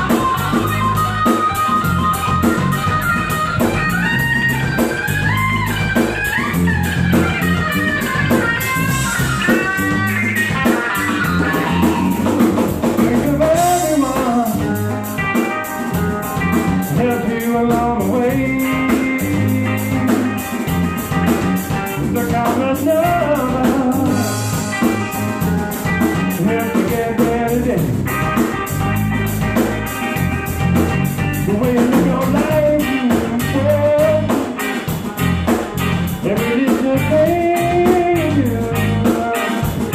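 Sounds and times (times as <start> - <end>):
bass guitar: 0.0 - 39.9
drum kit: 0.0 - 39.9
electric guitar lines: 0.0 - 39.9.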